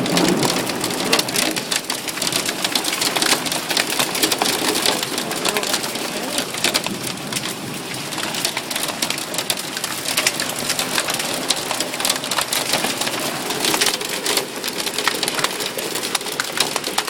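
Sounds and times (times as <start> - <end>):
hail and rain rattling: 0.0 - 17.0
sharp hail impact clicks: 0.0 - 17.0.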